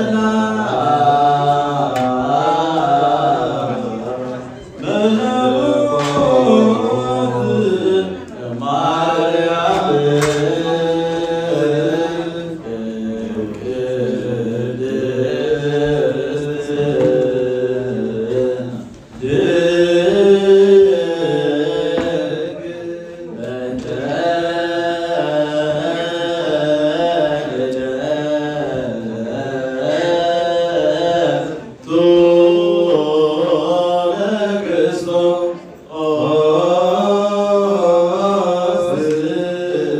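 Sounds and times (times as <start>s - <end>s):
male voices chanting a hymn: 0.0s - 39.9s.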